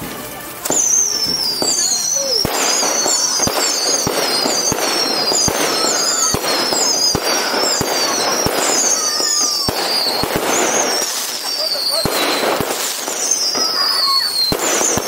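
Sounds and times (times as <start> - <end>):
fireworks bangs: 0.0 - 15.0
fireworks crackle: 0.0 - 15.0
high wavering whistles: 0.7 - 15.0.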